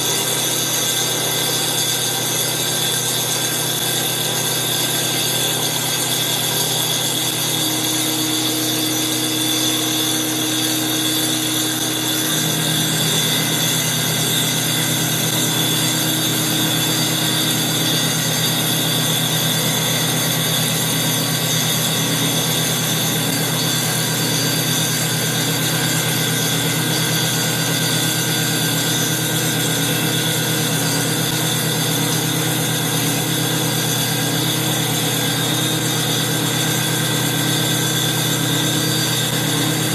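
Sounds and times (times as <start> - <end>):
motors whining: 0.0 - 39.9
saw blade cutting spinning wood: 0.0 - 39.9.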